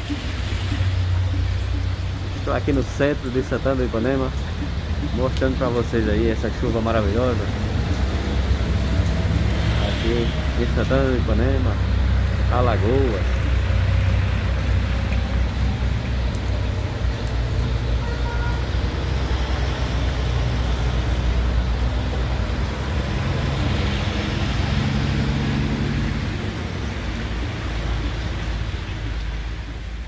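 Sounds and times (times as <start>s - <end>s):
heavy rain: 0.0s - 30.0s
traffic on wet street: 0.0s - 30.0s
truck engine passing: 0.0s - 30.0s.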